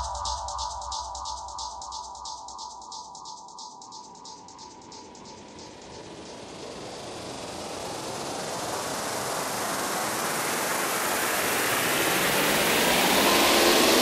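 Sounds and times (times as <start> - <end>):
white-noise riser hiss: 0.0 - 14.0.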